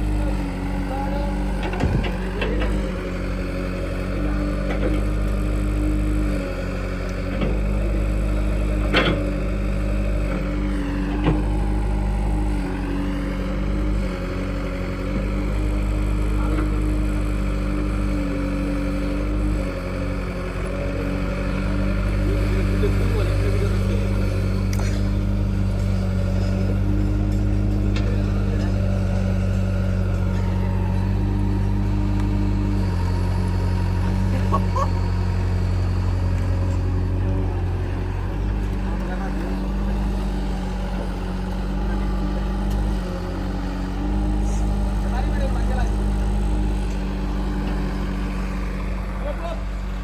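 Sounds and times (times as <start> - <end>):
heavy diesel engine under load: 0.0 - 50.0.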